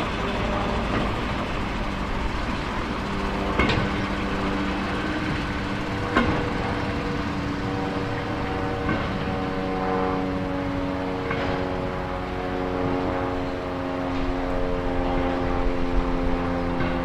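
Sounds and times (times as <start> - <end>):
diesel locomotive engine droning: 0.0 - 17.0.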